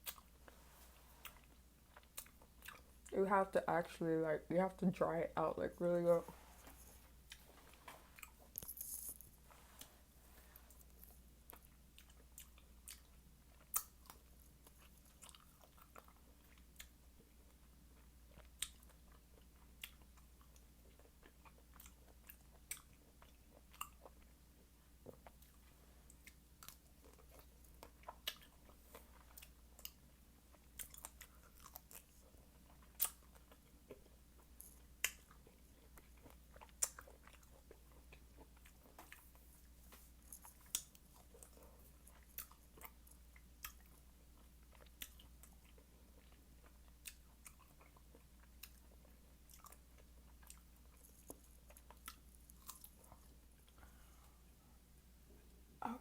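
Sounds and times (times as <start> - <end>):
wet chewing of fruit: 0.0 - 3.1, 6.3 - 53.9
low steady hum: 0.0 - 56.0.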